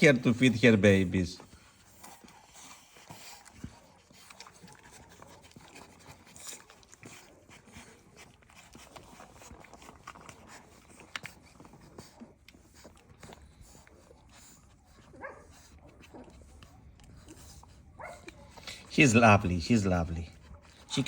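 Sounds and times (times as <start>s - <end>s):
dog panting: 0.0s - 21.0s
small clicks and scrapes: 1.5s - 18.8s.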